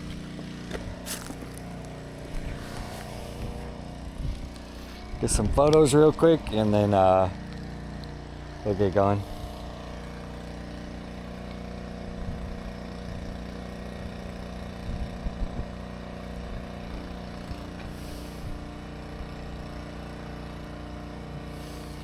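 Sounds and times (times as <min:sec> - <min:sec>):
pressure washer engine idling: 0:00.0 - 0:22.0.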